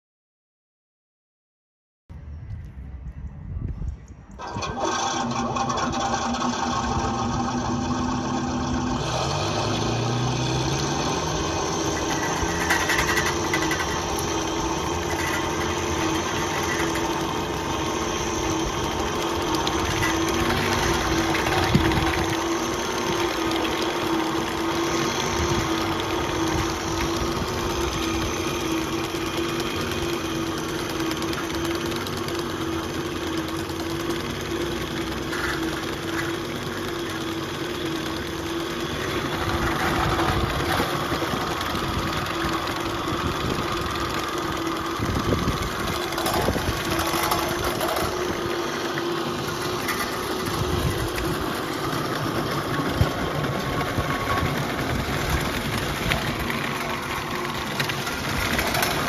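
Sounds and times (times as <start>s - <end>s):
model tank engine drone: 4.2s - 59.0s
metal tracks rattling: 4.4s - 59.0s.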